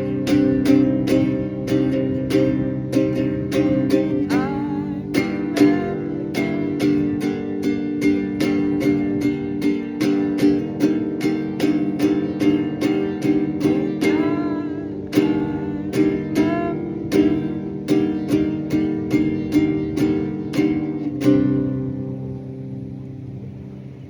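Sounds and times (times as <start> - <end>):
acoustic guitar strumming: 0.0 - 23.7.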